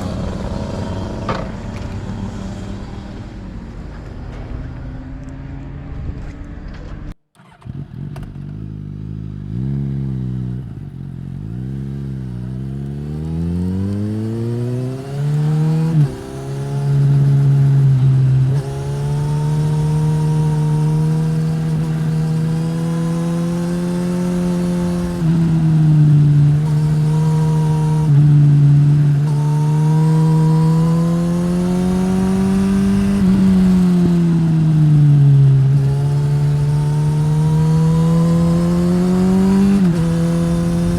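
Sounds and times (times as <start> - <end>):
motorcycle accelerating through gears: 0.0 - 40.9.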